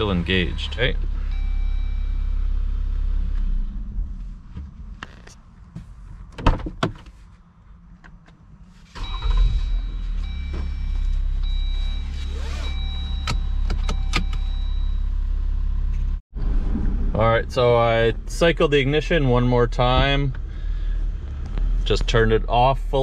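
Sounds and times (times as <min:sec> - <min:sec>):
diesel engine starting and idling: 0:00.0 - 0:05.0, 0:08.9 - 0:23.0.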